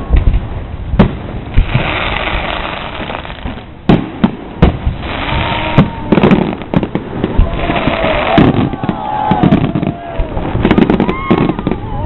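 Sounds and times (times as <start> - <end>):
firework hiss: 0.0 - 11.9.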